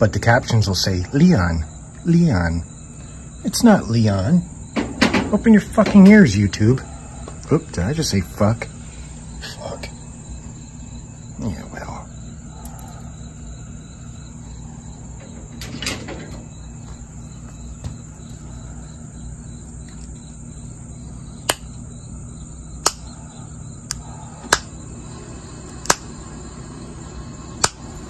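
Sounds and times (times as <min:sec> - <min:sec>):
high insect trill: 0:00.0 - 0:28.0.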